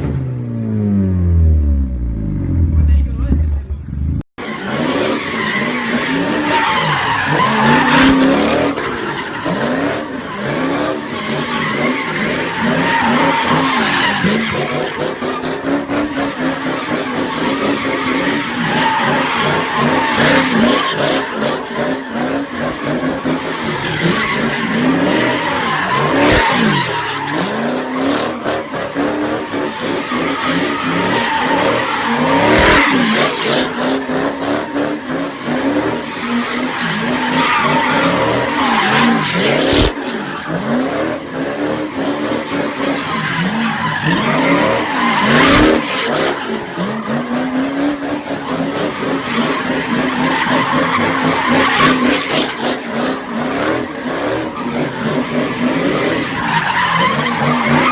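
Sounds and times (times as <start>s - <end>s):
car engine revving: 0.0s - 57.9s
tyres skidding: 0.0s - 57.9s.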